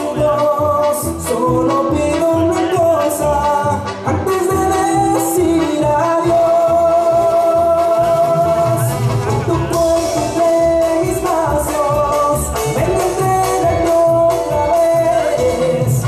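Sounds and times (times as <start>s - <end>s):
bass and drum beat: 0.0s - 16.0s
man singing into microphone: 0.0s - 16.0s.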